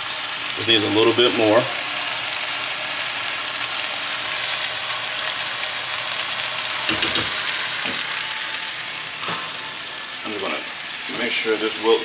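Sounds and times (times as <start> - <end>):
spinach sizzling in a skillet: 0.0 - 12.0.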